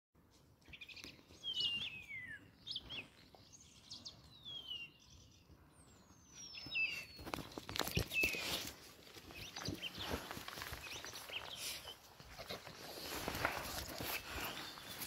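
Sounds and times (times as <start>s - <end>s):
faint outdoor background noise: 0.2s - 15.0s
songbirds chirping: 0.2s - 15.0s.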